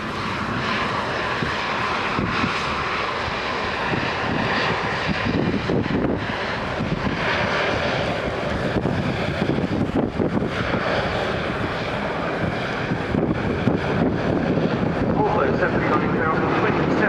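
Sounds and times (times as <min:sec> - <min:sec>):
aircraft radial engines droning: 0:00.0 - 0:17.0.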